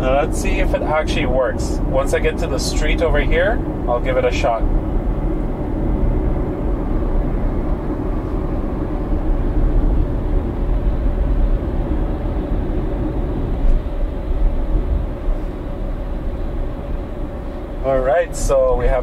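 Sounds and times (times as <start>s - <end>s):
road and tyre noise: 0.0s - 19.0s.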